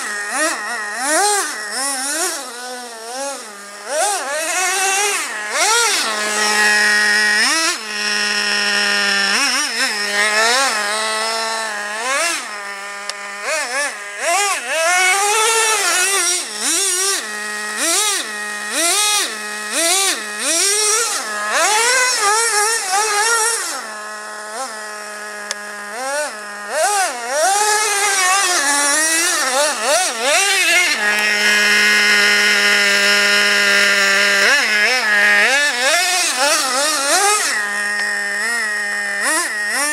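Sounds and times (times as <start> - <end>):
model car engine revving: 0.0 - 39.9.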